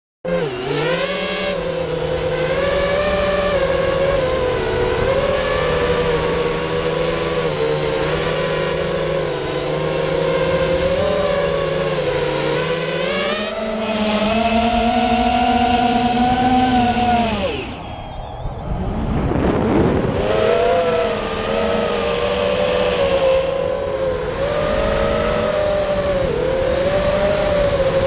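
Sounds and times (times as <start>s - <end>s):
quadcopter motors whining: 0.2s - 28.0s.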